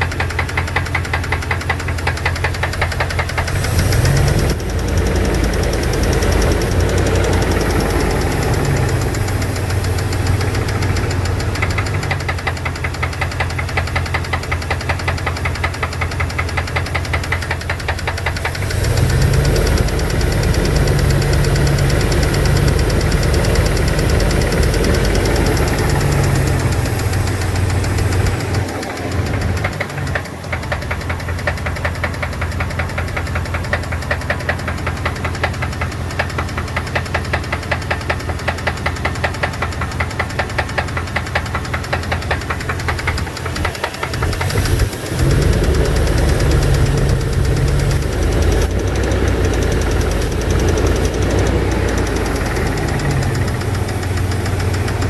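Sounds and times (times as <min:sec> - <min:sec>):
engine running with ticking knock: 0:00.0 - 0:55.0.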